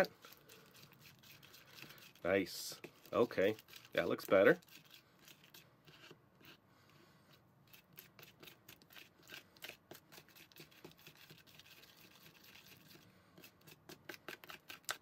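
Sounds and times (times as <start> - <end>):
spoon stirring in plastic bowl: 0.0 - 6.6, 7.6 - 15.0.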